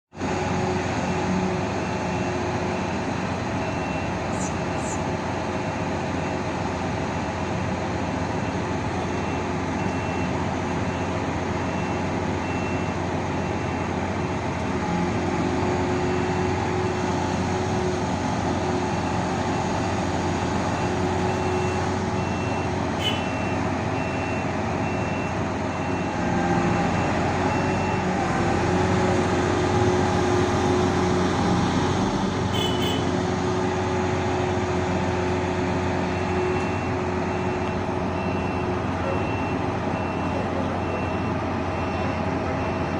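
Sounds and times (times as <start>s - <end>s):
heavy diesel engine running: 0.1s - 42.9s.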